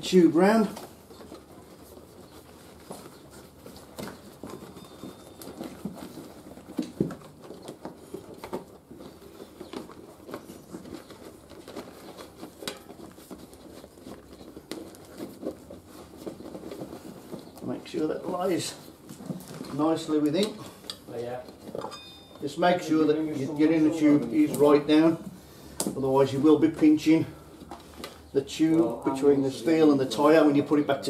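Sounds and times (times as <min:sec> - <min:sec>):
rubbery rustling of inner tube: 0:00.0 - 0:31.0.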